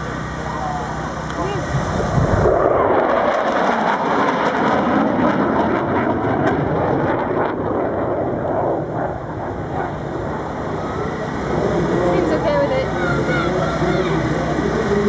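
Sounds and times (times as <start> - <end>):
jet flying past: 0.0 - 15.0.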